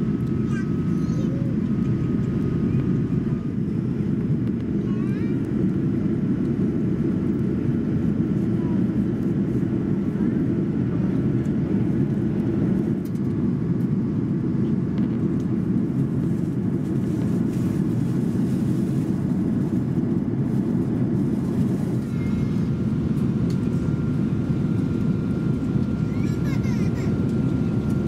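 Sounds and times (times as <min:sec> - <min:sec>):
airplane cabin engine roar: 0:00.0 - 0:28.0.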